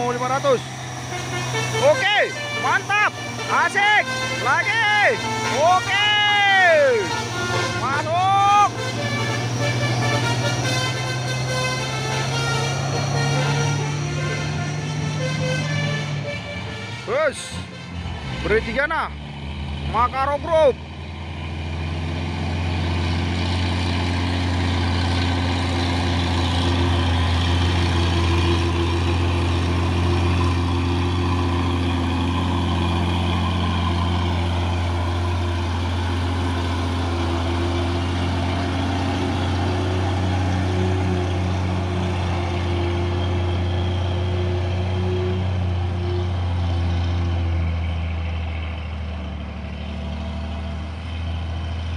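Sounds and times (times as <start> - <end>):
truck diesel engine droning: 0.0 - 51.9.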